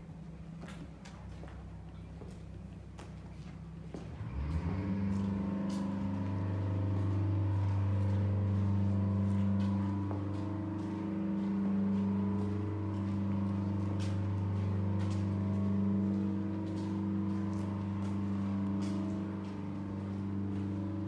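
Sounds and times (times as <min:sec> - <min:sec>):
low motor hum: 0:00.0 - 0:21.0
footsteps on stone paving: 0:00.2 - 0:21.0.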